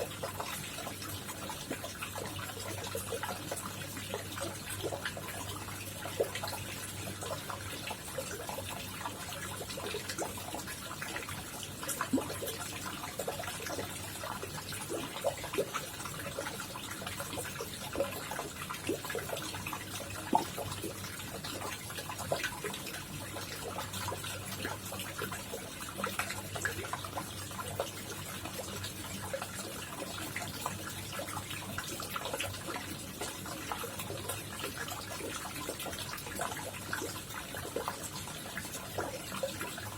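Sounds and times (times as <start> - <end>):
pond water trickling and splashing: 0.0 - 39.9.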